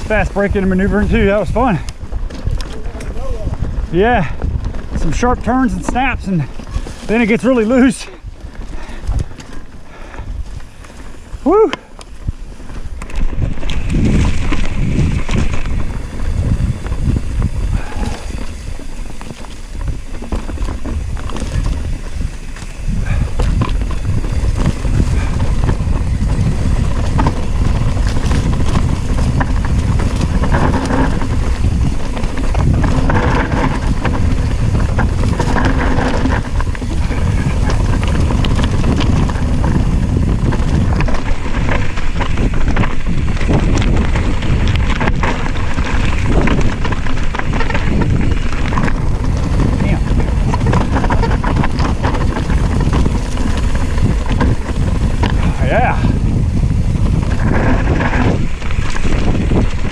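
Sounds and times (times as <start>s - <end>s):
bike rattling over rocky trail: 0.0s - 59.9s
wind buffeting microphone: 0.0s - 59.9s.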